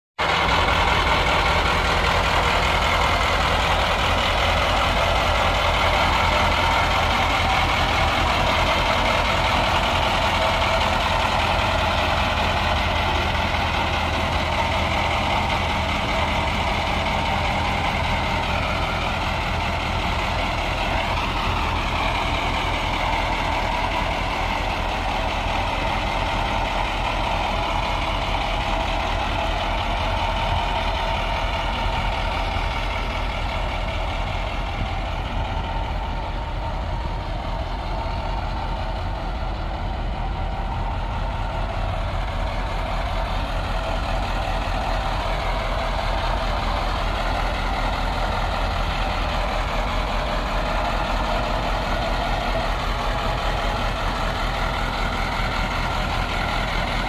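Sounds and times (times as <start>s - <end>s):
truck engine idling: 0.2s - 57.0s.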